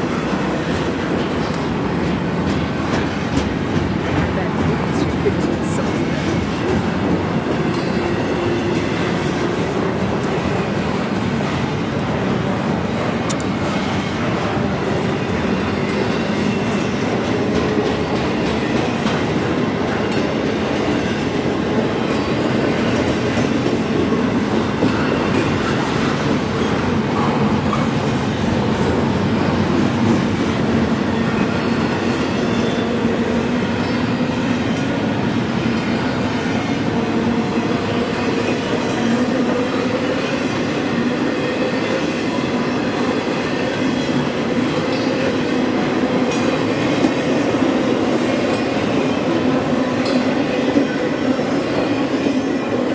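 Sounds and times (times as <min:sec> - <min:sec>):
train wheels on rails: 0:00.0 - 0:52.9.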